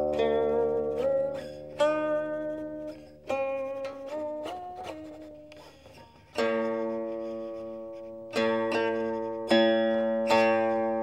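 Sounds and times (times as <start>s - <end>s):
plucked zither notes: 0.0s - 11.0s.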